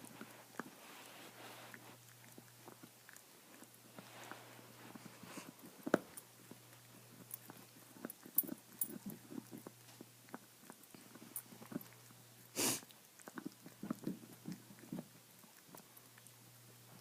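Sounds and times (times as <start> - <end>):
dog gnawing on a bone: 0.0 - 17.0.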